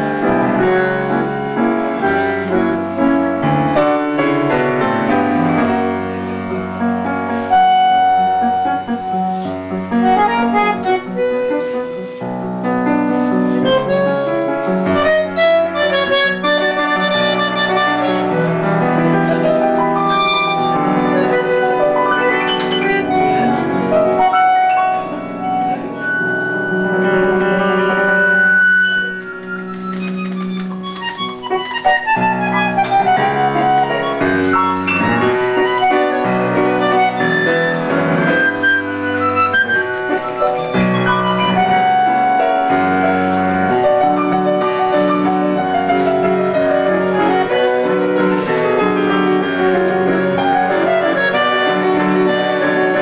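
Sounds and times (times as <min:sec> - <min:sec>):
bandoneon playing tango: 0:00.0 - 0:53.0
piano bass and chords: 0:00.0 - 0:53.0.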